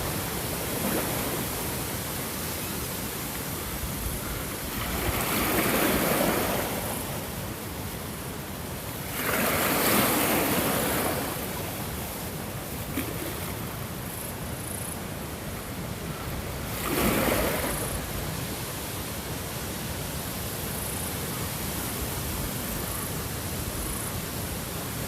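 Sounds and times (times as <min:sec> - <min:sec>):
ocean waves breaking on shore: 0:00.0 - 0:25.0.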